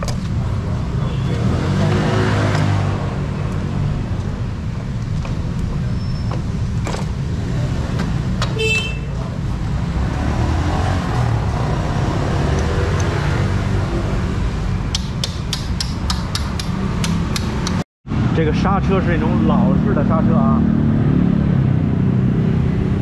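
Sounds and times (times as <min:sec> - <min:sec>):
motorbike engines passing: 0:00.0 - 0:14.8, 0:16.2 - 0:23.0
road traffic rumble: 0:00.0 - 0:23.0.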